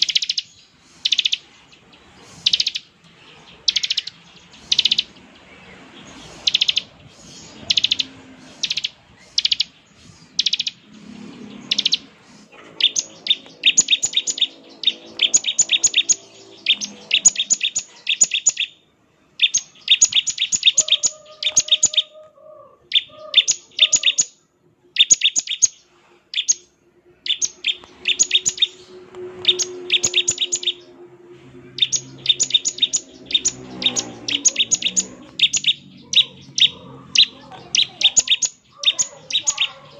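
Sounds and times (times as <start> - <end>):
bird calling with ticking trills: 0.0 - 1.5, 2.4 - 2.9, 3.5 - 5.2, 6.3 - 18.8, 19.4 - 39.9.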